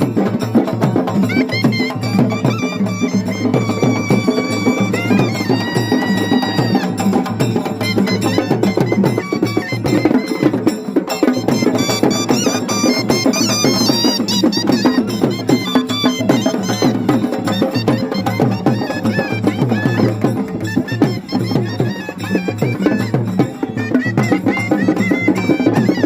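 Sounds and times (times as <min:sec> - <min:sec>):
high-pitched wind instrument: 0:00.0 - 0:26.0.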